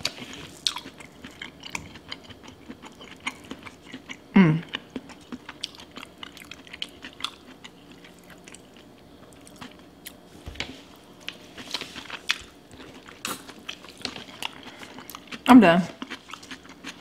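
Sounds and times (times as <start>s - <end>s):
chewing: 0.0s - 10.2s, 11.2s - 17.0s.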